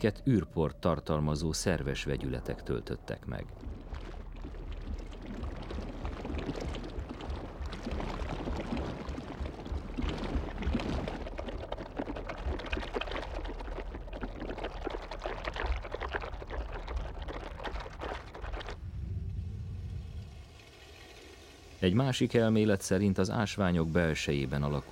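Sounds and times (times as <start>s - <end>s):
low rumble: 0.0s - 21.7s
liquid bubbling and gurgling: 1.1s - 24.9s.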